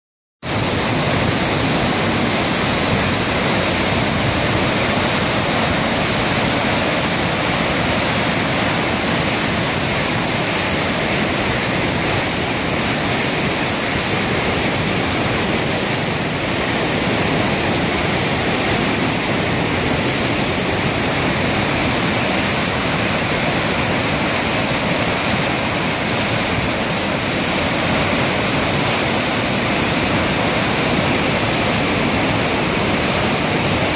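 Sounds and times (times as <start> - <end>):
river rushing through rapids: 0.4 - 33.9.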